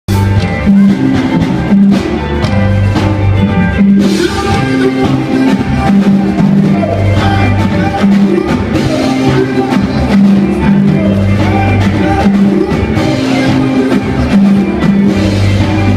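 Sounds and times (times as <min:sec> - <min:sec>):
bass notes: 0:00.1 - 0:15.9
guitar lines: 0:00.1 - 0:15.9
live band playing: 0:00.1 - 0:15.9.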